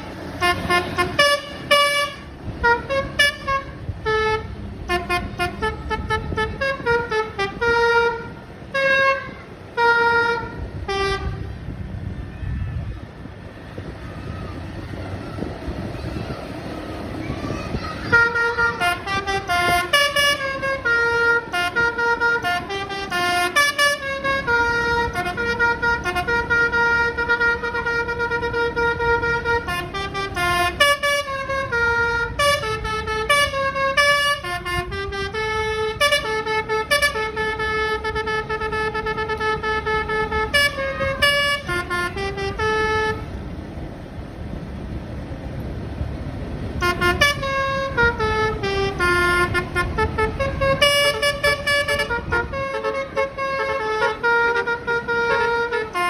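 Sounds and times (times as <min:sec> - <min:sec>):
musical air horn melody: 0:00.3 - 0:11.6, 0:18.1 - 0:43.4, 0:46.8 - 0:56.0.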